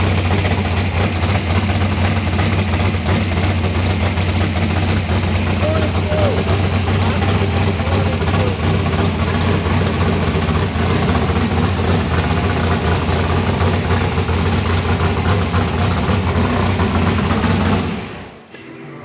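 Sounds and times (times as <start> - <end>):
car engine running loud: 0.0 - 18.5.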